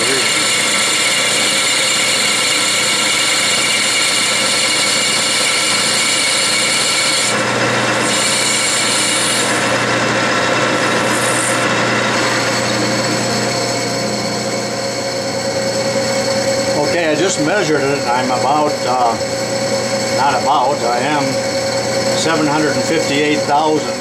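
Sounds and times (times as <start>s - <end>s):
hiss of lathe tool cutting: 0.0s - 13.7s, 16.8s - 24.0s
metal lathe whine: 0.0s - 24.0s.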